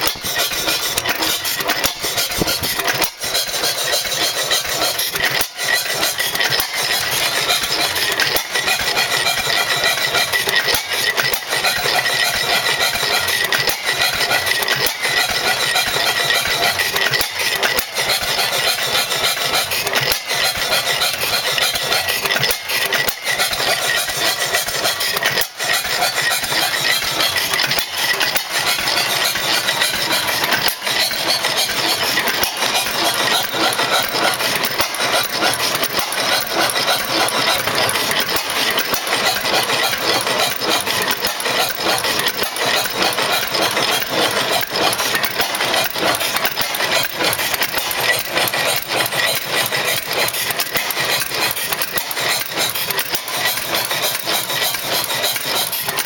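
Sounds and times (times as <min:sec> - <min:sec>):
stationary engine clattering: 0:00.0 - 0:56.0.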